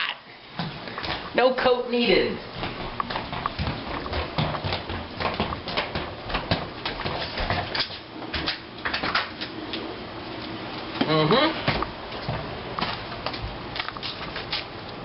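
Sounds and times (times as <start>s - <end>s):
footsteps: 0.5s - 1.4s, 2.4s - 14.7s.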